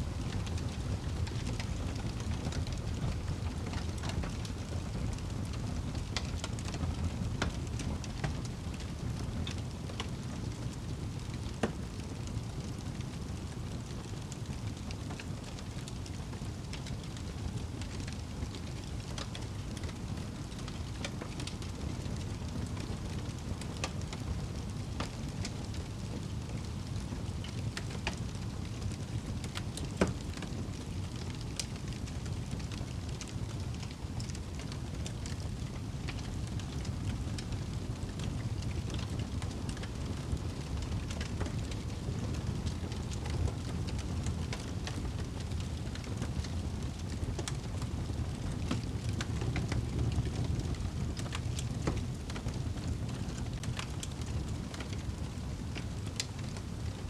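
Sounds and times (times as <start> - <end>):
fireplace crackling: 0.0 - 57.0
burning logs popping: 0.1 - 57.0.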